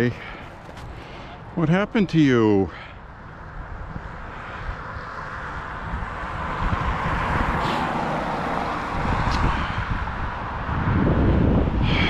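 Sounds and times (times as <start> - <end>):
outdoor rushing noise: 0.0 - 12.0
wind buffeting microphone: 0.0 - 12.0.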